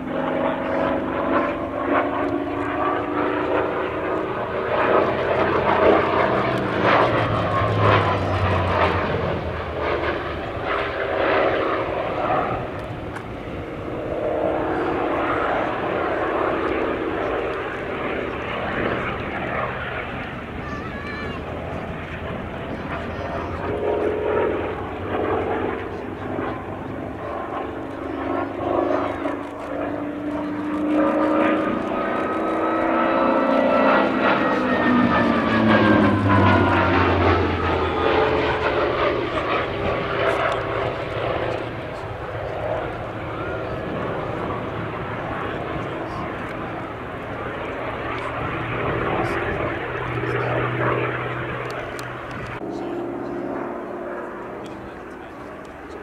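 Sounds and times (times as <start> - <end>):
aircraft radial engine rasping: 0.0 - 56.0.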